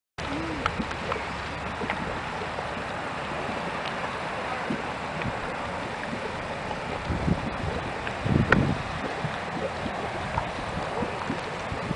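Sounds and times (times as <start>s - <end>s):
mud popping softly: 0.2s - 11.9s.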